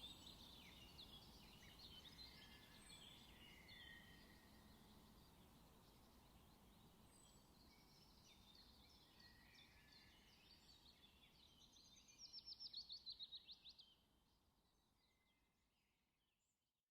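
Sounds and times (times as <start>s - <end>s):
low ambient hiss: 0.0s - 15.2s
songbirds chirping: 0.0s - 15.5s.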